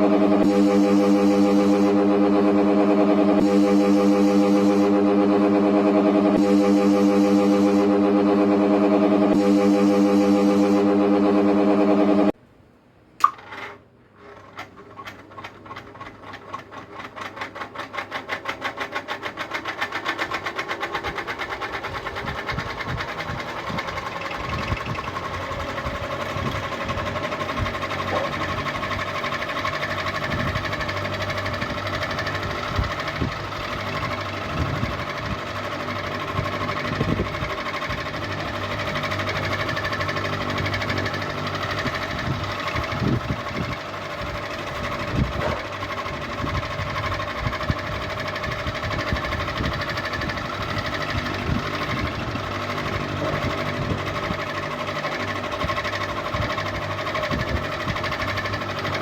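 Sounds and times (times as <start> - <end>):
ceiling fan ticking and humming: 0.0 - 59.0.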